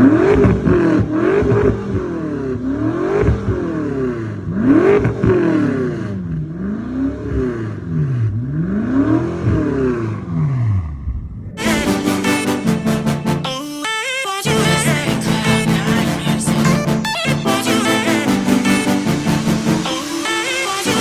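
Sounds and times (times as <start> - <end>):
car engine revving: 0.0 - 13.5, 14.5 - 21.0.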